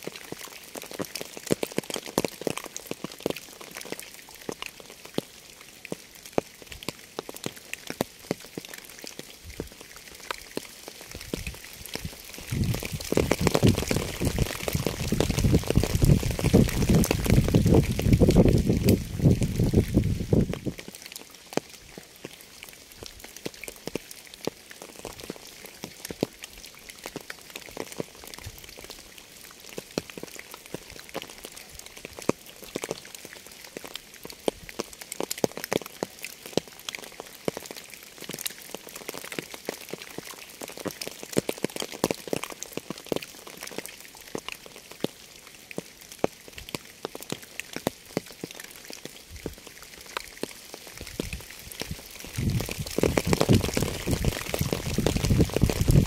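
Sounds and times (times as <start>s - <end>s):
rain falling steadily: 0.0s - 56.0s
sharp raindrop impacts: 0.0s - 56.0s.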